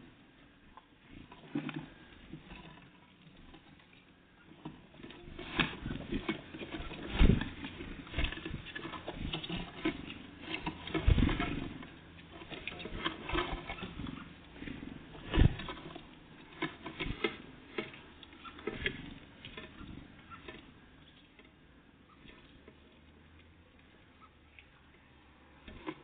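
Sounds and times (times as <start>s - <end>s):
birds pecking at feeder: 0.0s - 26.0s.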